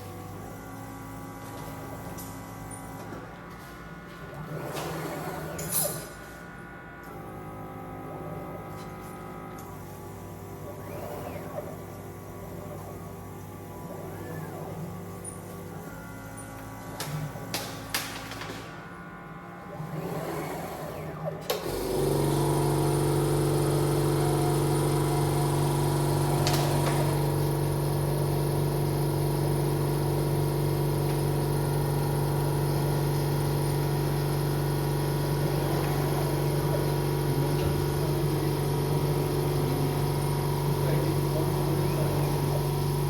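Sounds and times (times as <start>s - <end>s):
motor humming loudly: 0.0s - 43.0s.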